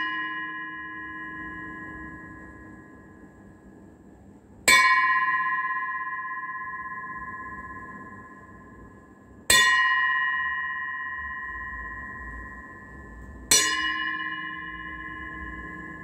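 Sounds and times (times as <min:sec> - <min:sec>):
metal bowl struck ringing: 0:00.0 - 0:03.6, 0:04.6 - 0:16.0.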